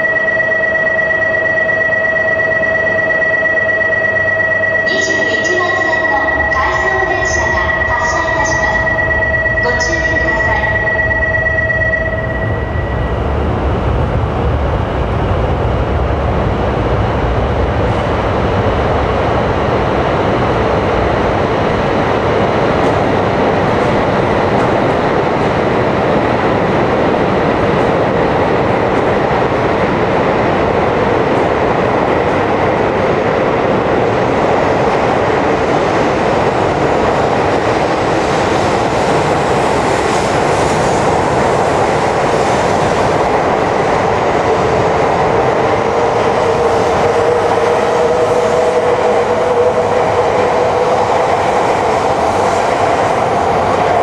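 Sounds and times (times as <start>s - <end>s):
train wheels rumbling on rail: 6.5s - 54.0s.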